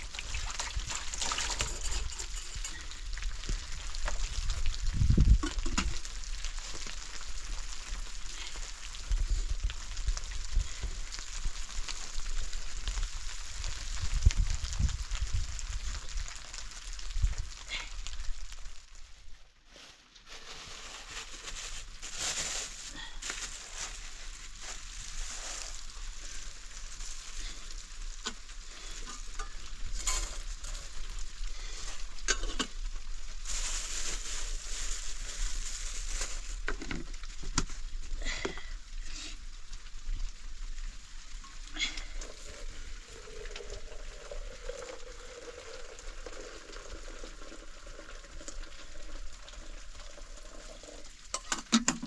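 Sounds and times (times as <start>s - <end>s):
food sizzling in a pan: 2.0s - 19.0s, 21.9s - 51.7s.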